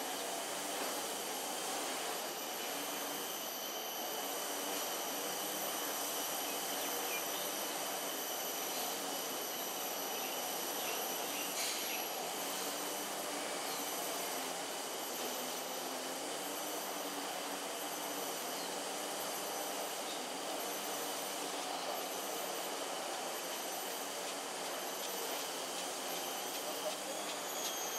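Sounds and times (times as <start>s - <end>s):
high-pitched insect drones: 0.0s - 27.9s.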